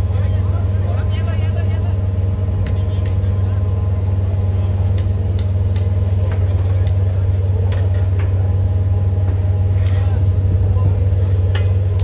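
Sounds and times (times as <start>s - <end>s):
large engine humming: 0.0s - 12.0s.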